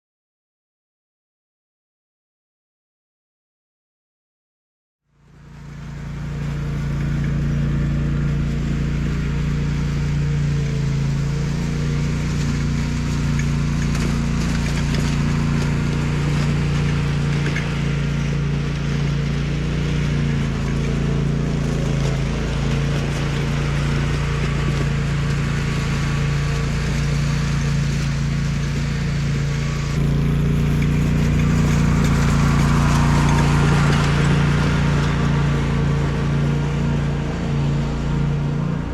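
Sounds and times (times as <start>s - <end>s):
small engine running: 5.1s - 38.9s.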